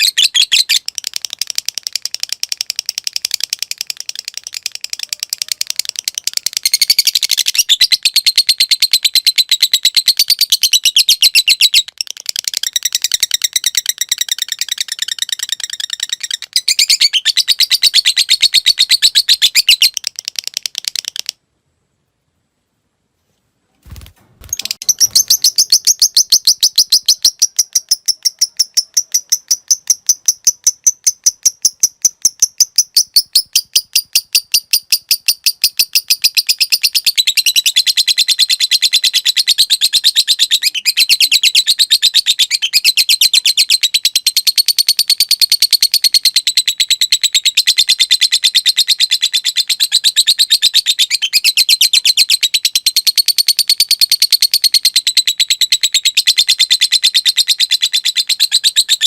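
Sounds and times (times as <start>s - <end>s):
lovebird chattering trill: 0.0s - 21.4s, 24.5s - 59.0s.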